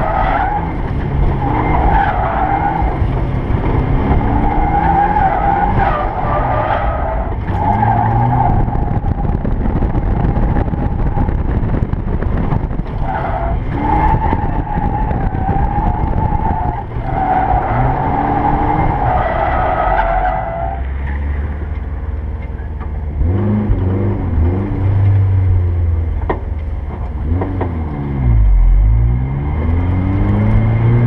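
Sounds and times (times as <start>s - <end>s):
car engine revving: 0.0s - 22.5s, 23.1s - 31.0s.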